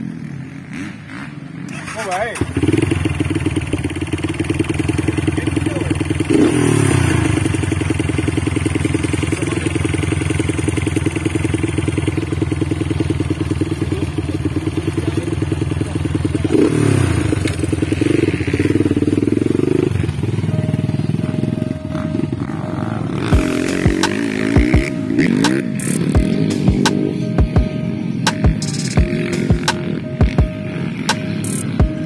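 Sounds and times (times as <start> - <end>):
dirt bike engine idling and revving: 0.0 - 32.0.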